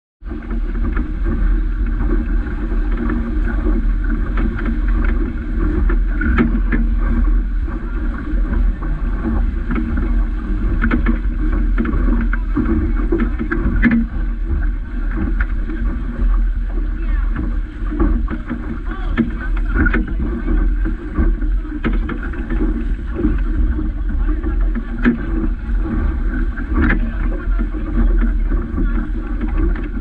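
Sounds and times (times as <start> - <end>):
water rushing past boat hull: 0.2 - 30.0
wind buffeting microphone: 0.2 - 30.0
spray slapping against boat: 0.3 - 30.0.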